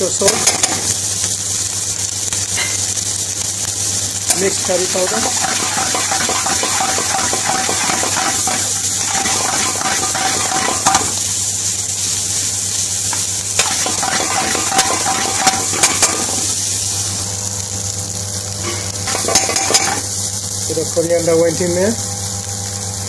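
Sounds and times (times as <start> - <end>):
meat sizzling in a frying pan: 0.0 - 23.0.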